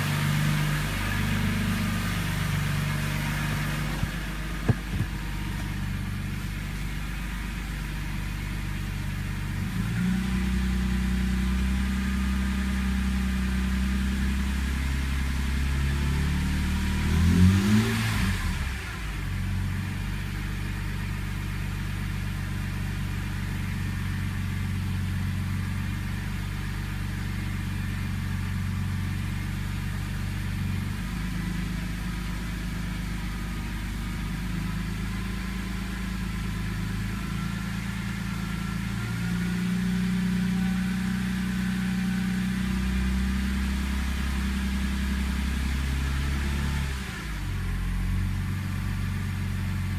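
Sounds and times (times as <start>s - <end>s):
car engine idling rough: 0.0s - 49.9s.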